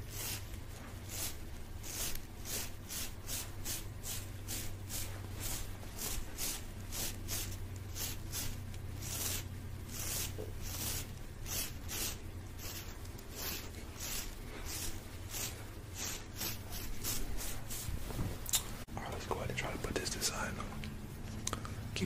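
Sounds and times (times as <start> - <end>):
steady low hum: 0.0 - 22.0
hands rubbing microphone: 0.1 - 18.4.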